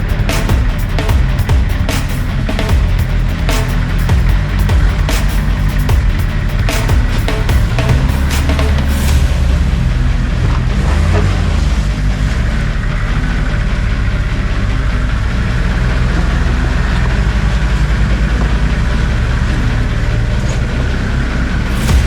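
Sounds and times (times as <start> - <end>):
vehicle engine idling low: 0.0 - 22.0.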